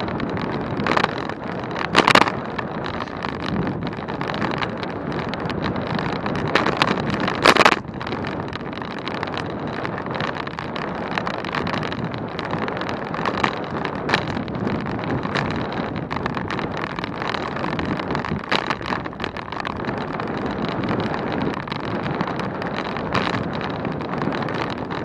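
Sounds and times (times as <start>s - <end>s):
road and tyre noise: 0.0s - 25.0s
wind rushing over microphone: 0.0s - 25.0s.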